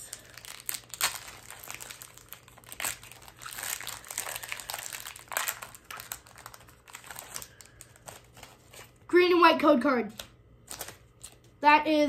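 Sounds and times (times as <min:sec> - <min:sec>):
foil wrapper crinkling: 0:00.0 - 0:09.0, 0:10.2 - 0:11.5.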